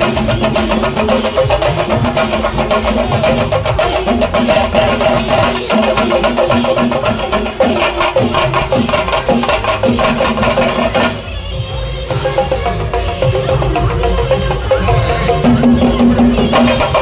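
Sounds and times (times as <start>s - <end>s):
drum ensemble rapid stick strokes: 0.0s - 17.0s.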